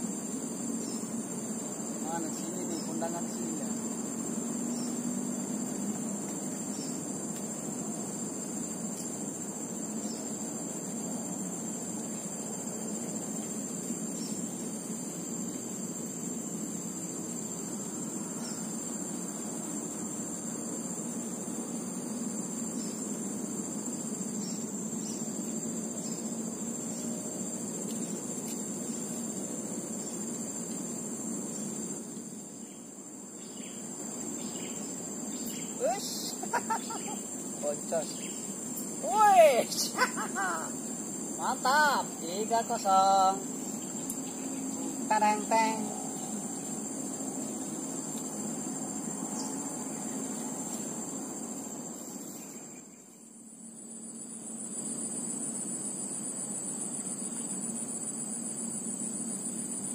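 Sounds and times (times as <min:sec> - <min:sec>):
insect chorus: 0:00.0 - 0:59.9.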